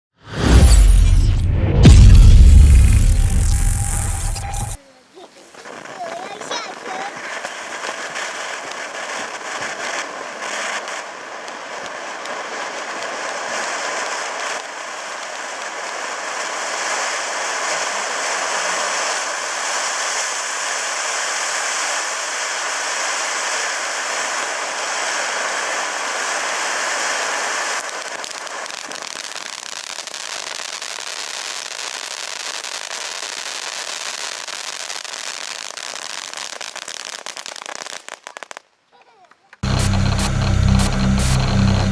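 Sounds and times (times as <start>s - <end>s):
crackling firework burning: 0.2s - 38.8s, 39.6s - 41.9s.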